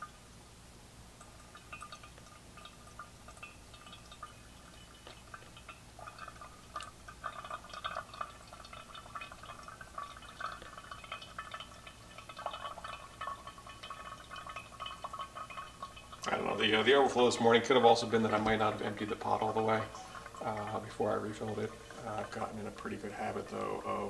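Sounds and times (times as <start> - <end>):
water trickling and dripping: 0.0 - 24.0.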